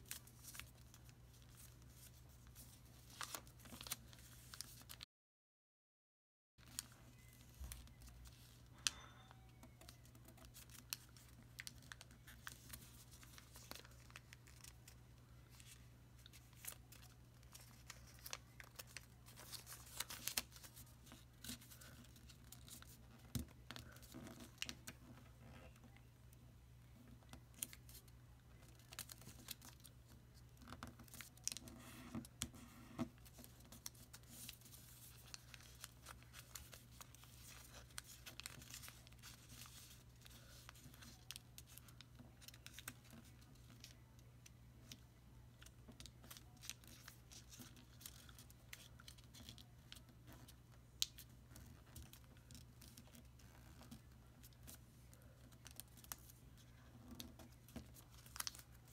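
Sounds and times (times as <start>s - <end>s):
paper being folded and creased: 0.0s - 5.0s, 6.6s - 8.7s, 9.7s - 25.8s, 28.6s - 44.0s, 45.6s - 58.9s.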